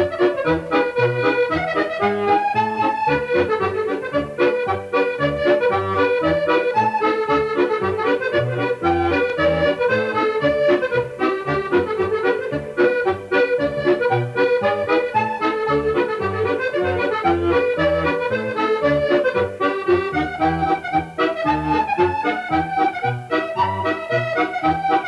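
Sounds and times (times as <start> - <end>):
accordion tune: 0.0 - 25.0.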